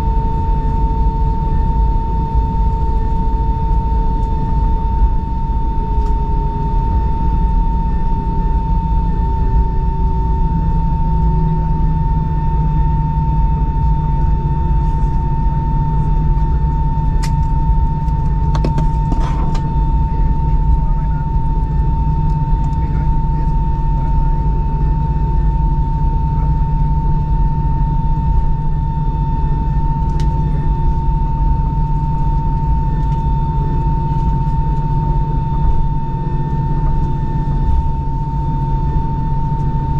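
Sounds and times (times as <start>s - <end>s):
constant high whine: 0.0s - 39.9s
jet engines rumbling: 0.0s - 39.9s.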